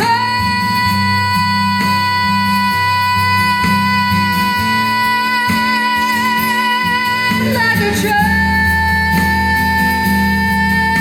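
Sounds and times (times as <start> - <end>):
country band playing: 0.0 - 11.0.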